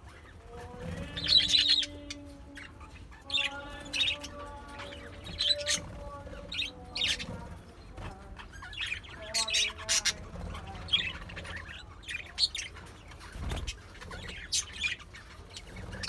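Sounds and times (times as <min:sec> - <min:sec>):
budgerigars chirping: 0:01.0 - 0:07.5, 0:08.4 - 0:16.0.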